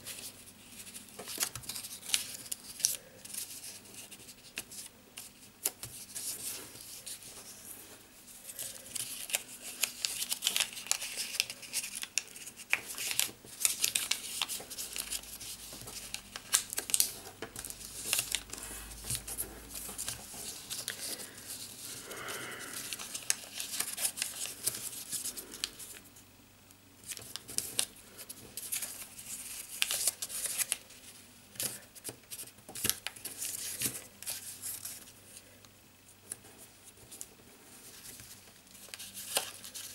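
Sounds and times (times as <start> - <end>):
paper folding and crinkling: 0.0 - 26.1, 27.0 - 35.4, 36.3 - 39.9.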